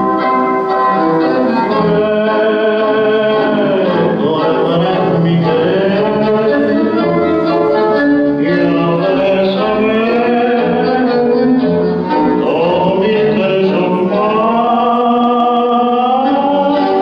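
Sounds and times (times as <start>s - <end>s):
tango music with violins: 0.0s - 17.0s.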